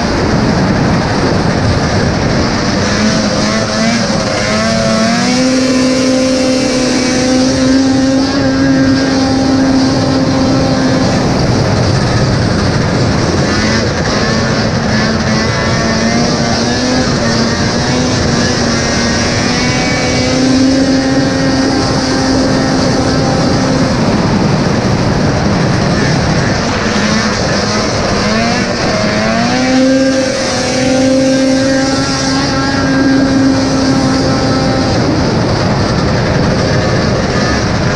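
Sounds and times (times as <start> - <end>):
snowmobile engine running hard: 0.0 - 37.9
wind and track noise: 0.0 - 37.9.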